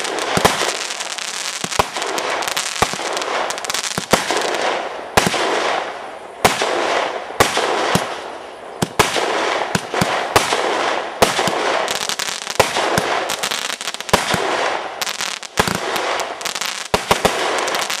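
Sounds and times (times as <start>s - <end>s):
fireworks crackling hiss: 0.0s - 6.2s, 7.9s - 18.0s
fireworks bangs: 0.0s - 18.0s.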